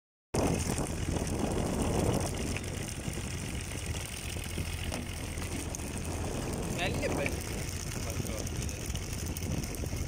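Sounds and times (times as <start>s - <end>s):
wind: 0.3s - 10.0s
boat engine humming: 0.4s - 10.0s
water hissing: 0.4s - 10.0s.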